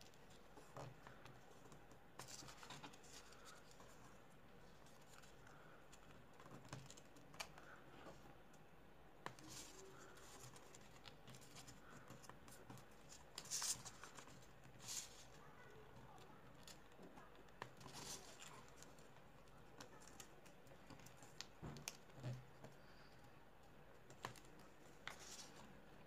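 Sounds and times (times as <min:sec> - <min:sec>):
paper folding rustle: 0:00.0 - 0:26.0.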